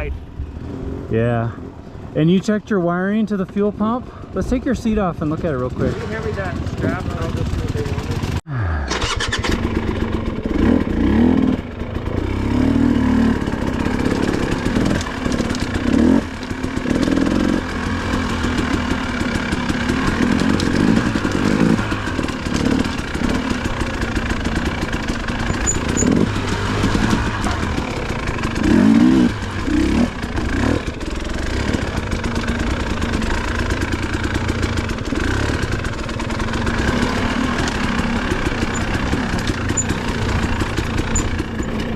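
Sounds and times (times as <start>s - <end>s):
dirt bike engine revving: 3.0s - 41.9s.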